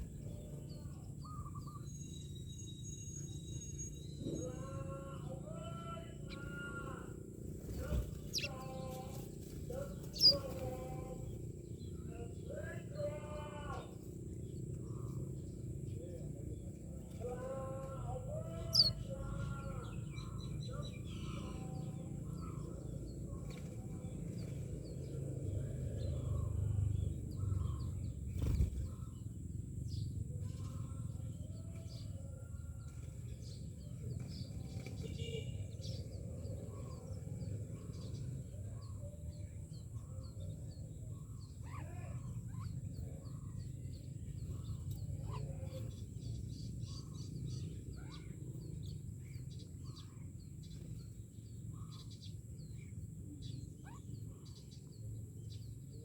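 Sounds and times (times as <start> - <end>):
myna birds calling: 0.0 - 56.0.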